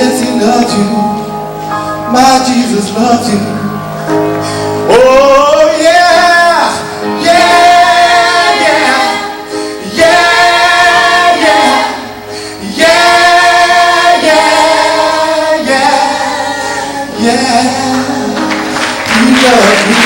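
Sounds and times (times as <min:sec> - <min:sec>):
gospel choir singing: 0:00.0 - 0:20.0.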